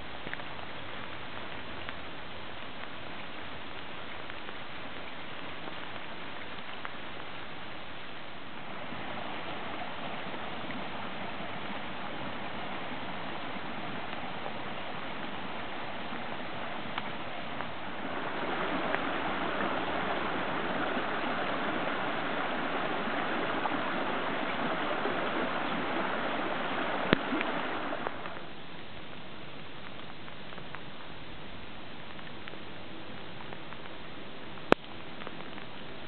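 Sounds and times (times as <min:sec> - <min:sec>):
water rushing down gully: 0:00.0 - 0:36.0.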